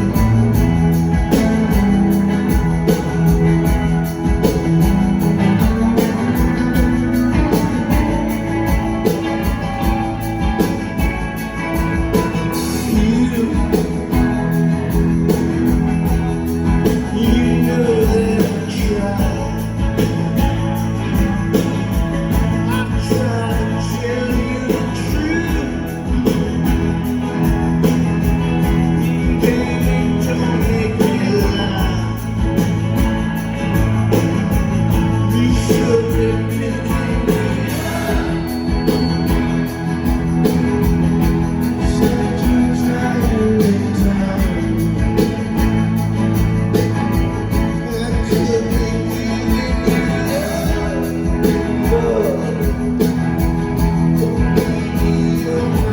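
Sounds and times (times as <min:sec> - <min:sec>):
person singing: 0:00.0 - 0:10.8, 0:11.8 - 0:15.3, 0:16.1 - 0:20.2, 0:22.3 - 0:26.5, 0:28.7 - 0:32.8, 0:34.9 - 0:40.6, 0:41.6 - 0:45.7, 0:47.5 - 0:55.9
live rock band playing: 0:00.0 - 0:55.9.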